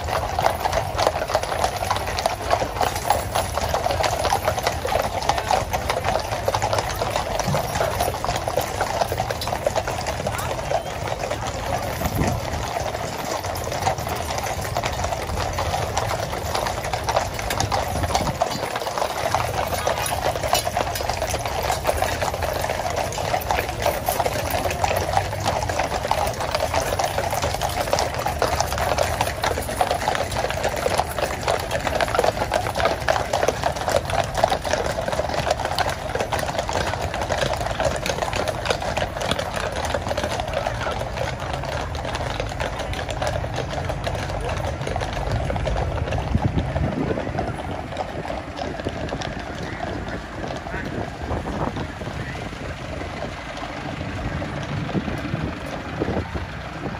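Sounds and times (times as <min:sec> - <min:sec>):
horse hooves on paved road: 0:00.0 - 0:56.9.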